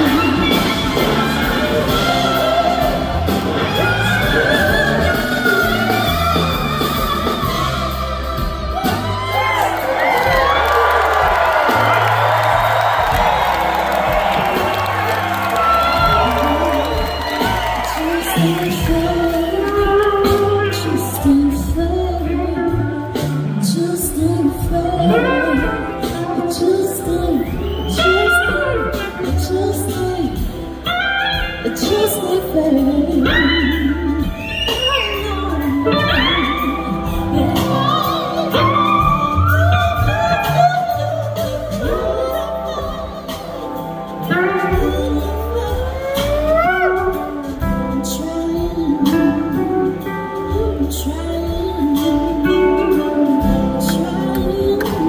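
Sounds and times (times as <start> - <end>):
live soul band playing: 0.0 - 55.0
woman singing lead: 0.0 - 55.0.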